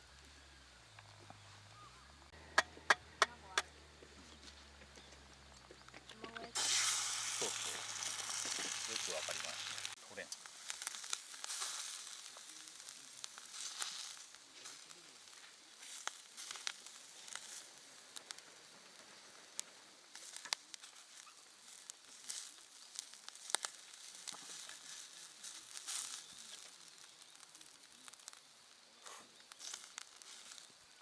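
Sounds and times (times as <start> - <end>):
soft fire hiss: 0.0 - 2.4, 3.2 - 31.0
campfire crackling and popping: 0.0 - 31.0.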